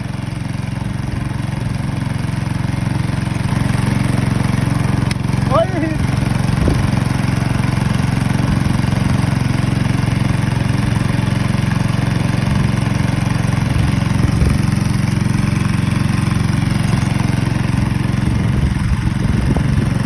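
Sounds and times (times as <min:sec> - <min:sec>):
boat motor running at full throttle: 0:00.0 - 0:20.0.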